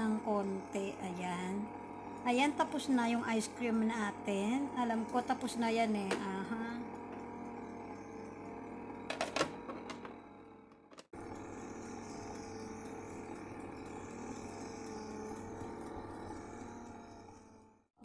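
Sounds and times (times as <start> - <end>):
ice cream maker motor humming: 0.0 - 18.0.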